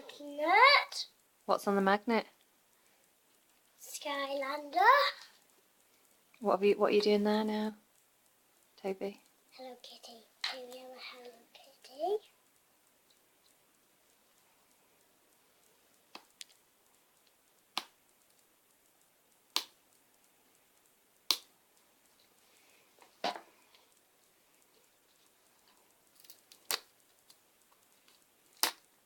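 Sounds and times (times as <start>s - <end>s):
plastic egg crackling and clicking: 2.4s - 22.4s, 23.0s - 29.0s.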